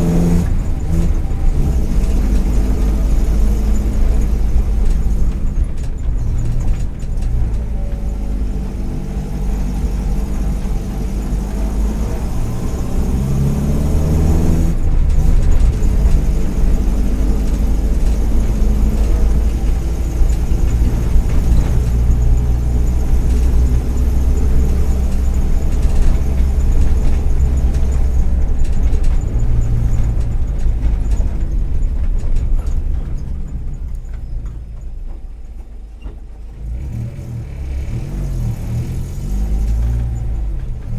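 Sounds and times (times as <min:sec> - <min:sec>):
four-cylinder engine revving: 0:00.0 - 0:34.0, 0:36.5 - 0:40.9.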